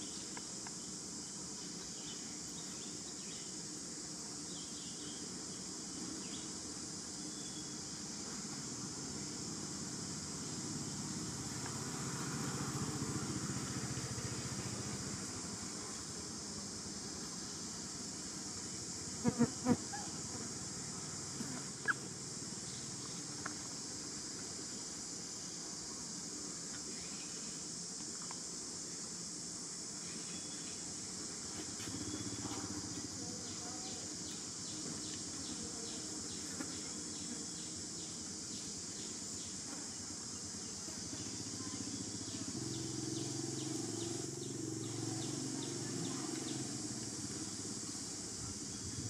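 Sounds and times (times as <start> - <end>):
high insect drone: 0.0 - 49.0
steady high hiss: 0.0 - 49.0.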